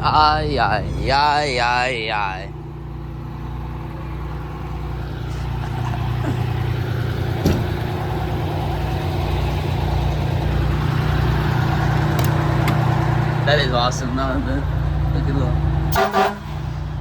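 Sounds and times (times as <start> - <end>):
fire engine idling: 0.0 - 17.0.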